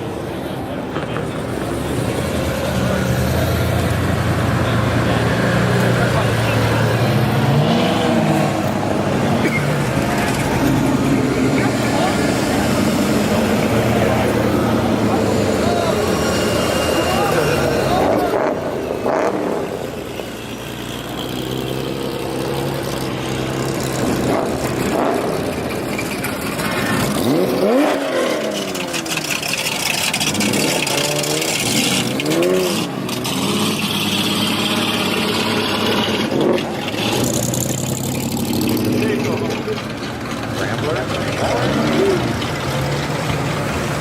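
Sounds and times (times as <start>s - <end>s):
vehicles driving past: 0.0s - 44.0s
engine revving: 1.0s - 44.0s.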